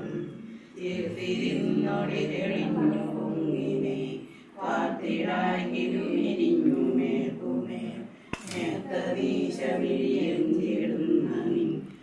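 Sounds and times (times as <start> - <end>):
voices chanting a prayer: 0.0 - 12.0.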